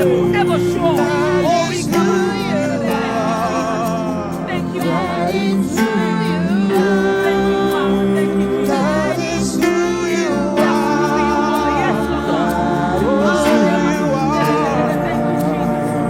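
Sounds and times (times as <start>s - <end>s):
steady sustained tones: 0.0s - 16.0s
voices singing with vibrato: 0.0s - 16.0s.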